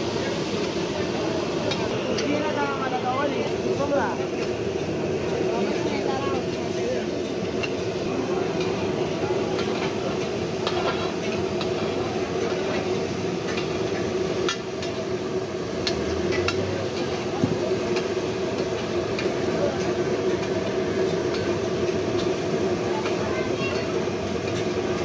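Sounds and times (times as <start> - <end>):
busy food stall din: 0.0 - 25.0.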